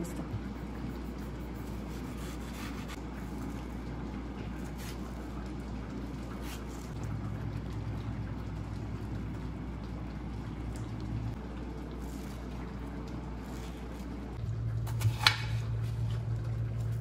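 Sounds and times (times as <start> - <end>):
low rumbling hum: 0.0 - 17.0.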